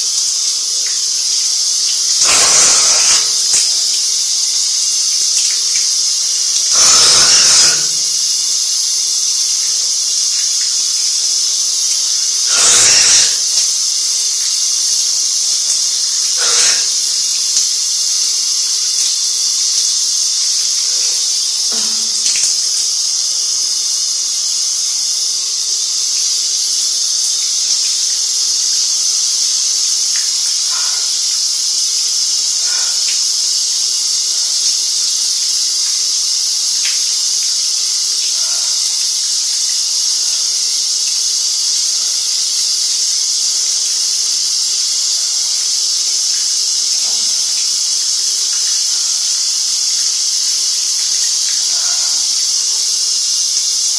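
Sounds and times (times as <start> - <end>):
shower spray hissing: 0.0 - 53.9.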